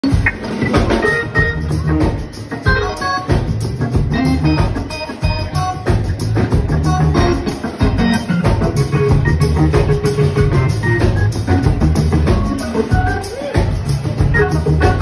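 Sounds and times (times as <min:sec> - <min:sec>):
live band with drums: 0:00.0 - 0:15.0
organ funk solo: 0:00.0 - 0:15.0.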